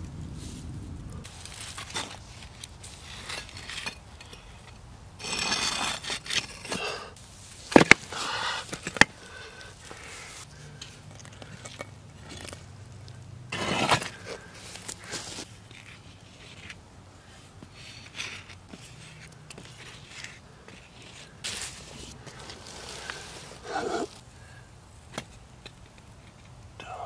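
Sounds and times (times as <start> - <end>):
stones and stick scraping over rock: 1.2 - 24.2.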